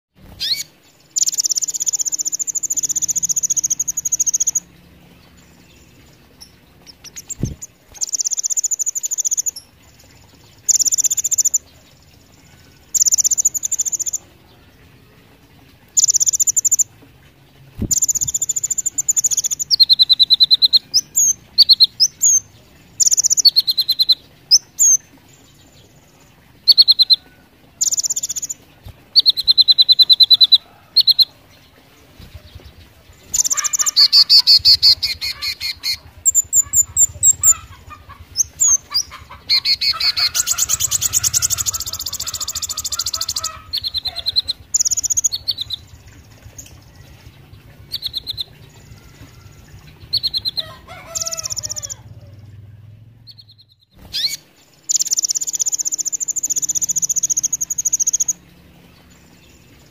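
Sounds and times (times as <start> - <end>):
bird trilling song: 0.2 - 59.9.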